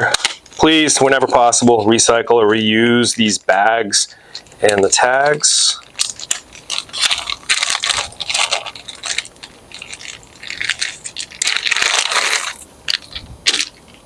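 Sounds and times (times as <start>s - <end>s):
plastic bag crinkling: 0.0s - 2.0s, 4.0s - 14.0s.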